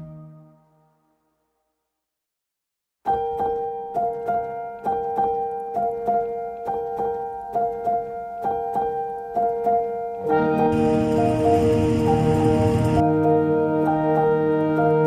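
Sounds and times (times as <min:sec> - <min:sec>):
keyboard instrumental music: 0:00.0 - 0:01.2, 0:03.0 - 0:15.0.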